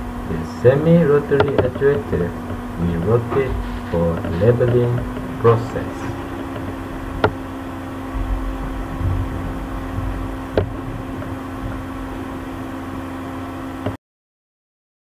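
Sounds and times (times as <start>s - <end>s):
low droning hum with hiss: 0.0s - 14.0s.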